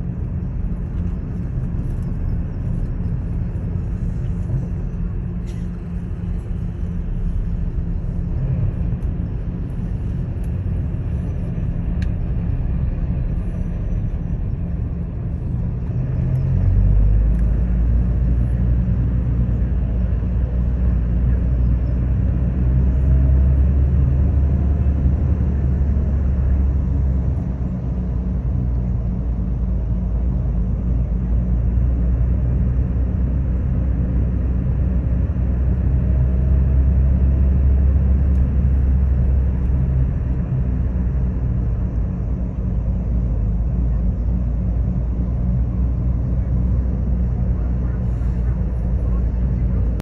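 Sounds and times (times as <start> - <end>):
low outdoor rumble: 0.0 - 50.0.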